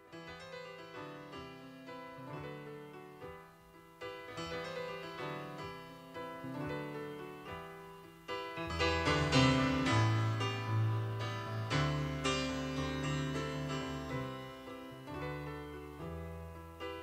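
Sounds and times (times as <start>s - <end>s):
piano repeating figure: 0.0s - 17.0s.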